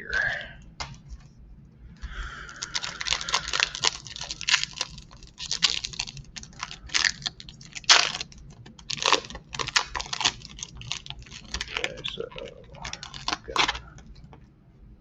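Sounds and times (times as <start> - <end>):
plastic packaging crinkling: 0.8 - 14.5.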